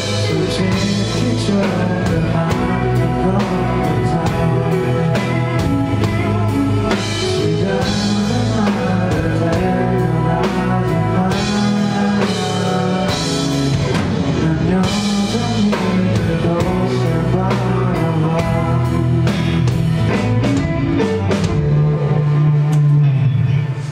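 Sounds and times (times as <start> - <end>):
drum kit beat: 0.0 - 21.9
live rock band playing: 0.0 - 23.9.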